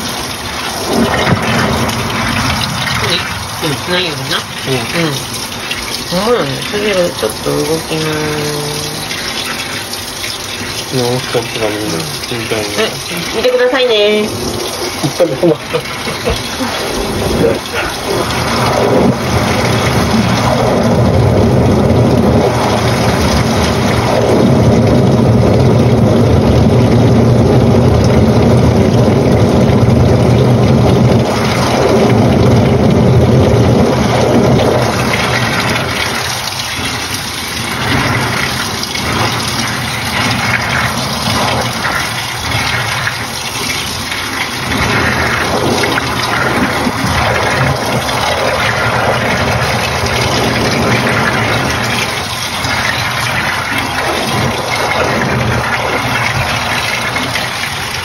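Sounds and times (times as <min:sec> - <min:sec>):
washing machine motor hum: 0:00.0 - 0:58.0
water churning in tub: 0:00.0 - 0:58.0.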